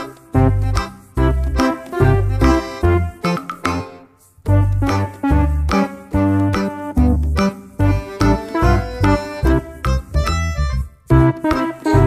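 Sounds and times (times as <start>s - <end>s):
instrumental music with bass line: 0.0s - 12.0s.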